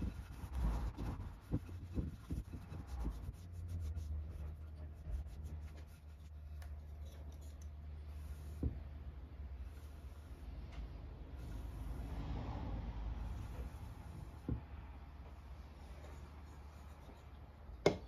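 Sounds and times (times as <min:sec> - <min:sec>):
paintbrush strokes on wood: 0:00.0 - 0:10.7, 0:11.4 - 0:17.5.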